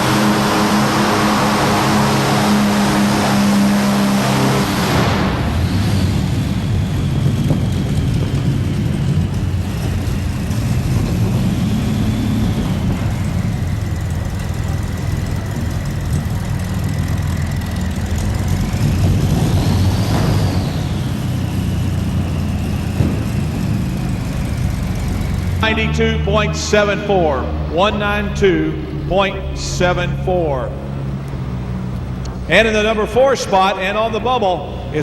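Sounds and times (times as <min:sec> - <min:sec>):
deep engine rumble: 0:00.0 - 0:35.0
high engine whine: 0:00.0 - 0:35.0.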